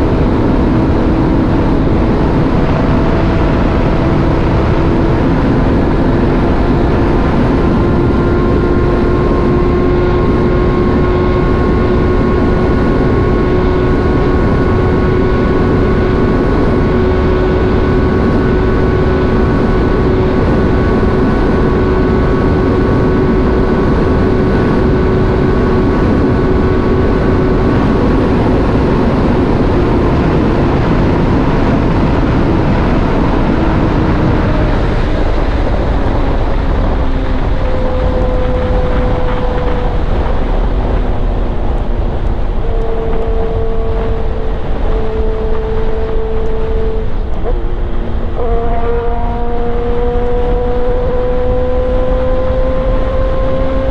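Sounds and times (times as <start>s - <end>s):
motorcycle engine cruising: 0.0s - 53.9s
wind rush on microphone: 0.0s - 53.9s.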